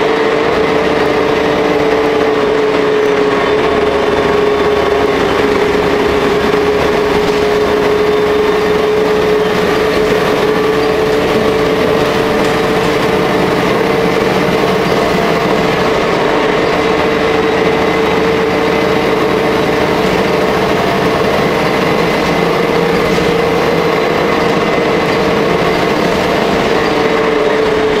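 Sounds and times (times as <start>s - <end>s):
bus engine and running noise: 0.0s - 28.0s
mid-pitched hum: 0.0s - 28.0s.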